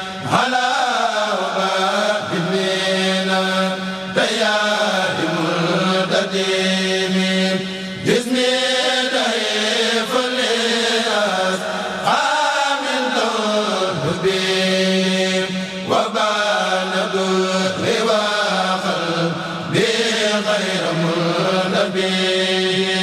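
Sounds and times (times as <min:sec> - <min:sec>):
person chanting long held notes: 0:00.0 - 0:23.0.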